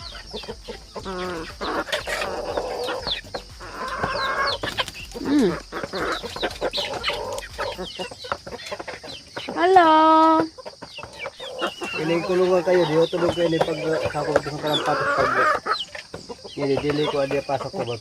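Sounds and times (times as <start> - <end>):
chickens clucking and squawking: 0.0 - 18.0.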